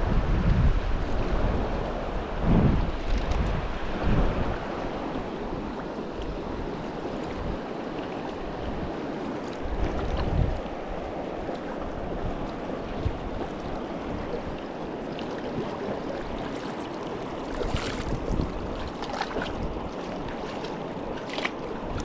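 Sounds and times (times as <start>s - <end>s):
water splashes: 0.9s - 22.0s
river flowing over cobbles: 3.6s - 22.0s.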